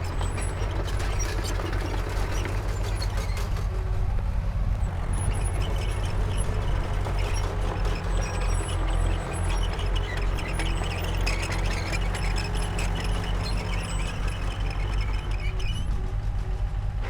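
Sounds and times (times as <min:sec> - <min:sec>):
faint high squeaks: 0:00.0 - 0:03.7, 0:04.8 - 0:16.0
bulldozer diesel engine rumbling: 0:00.0 - 0:17.0.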